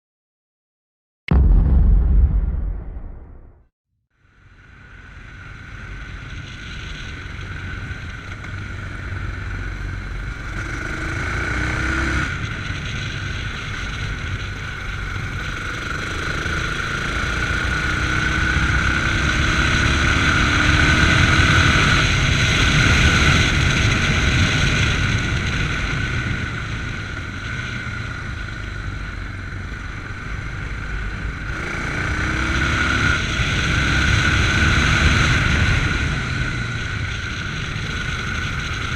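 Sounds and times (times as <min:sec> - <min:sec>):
motorcycle engine accelerating: 0:07.6 - 0:38.9.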